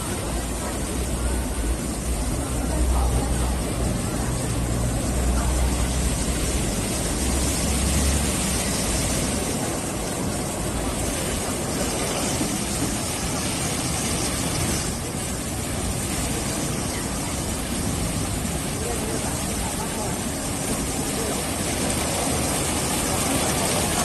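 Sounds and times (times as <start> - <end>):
spraying water and motors: 0.0 - 24.0.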